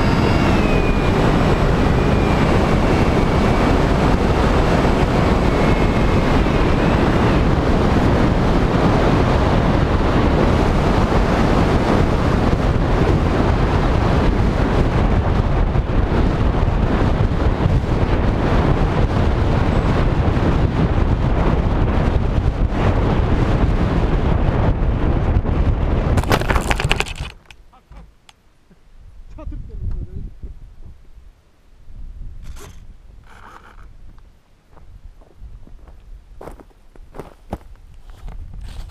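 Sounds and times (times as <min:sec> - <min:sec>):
wind rush over microphone: 0:00.0 - 0:28.1, 0:29.0 - 0:38.9.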